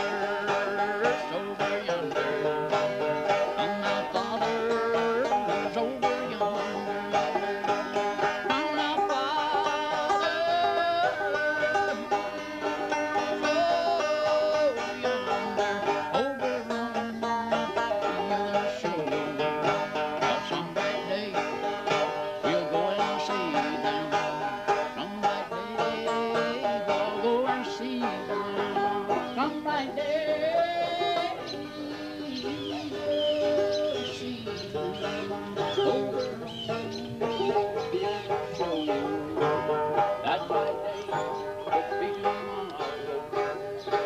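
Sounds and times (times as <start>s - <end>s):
banjo strumming: 0.0s - 44.0s.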